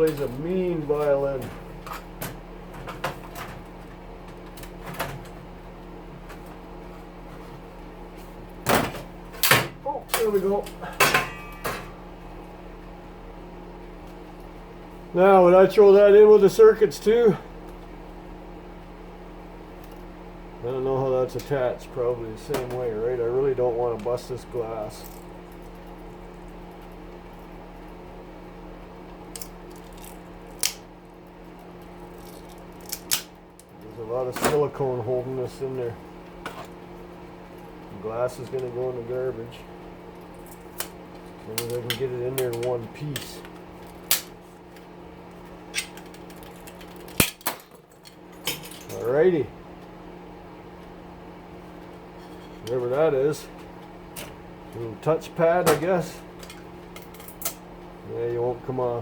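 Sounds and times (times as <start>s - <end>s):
exhaust fan humming: 0.0s - 59.0s.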